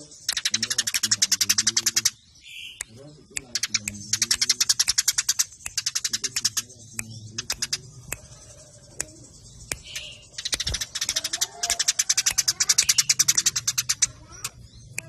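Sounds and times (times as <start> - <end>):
sparrows chattering: 0.0 - 15.0.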